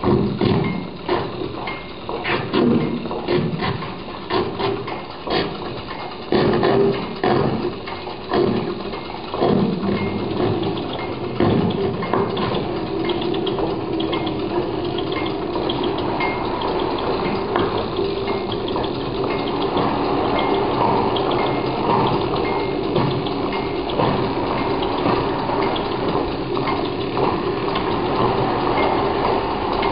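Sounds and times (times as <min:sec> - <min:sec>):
sewing machines whirring: 0:00.0 - 0:29.9.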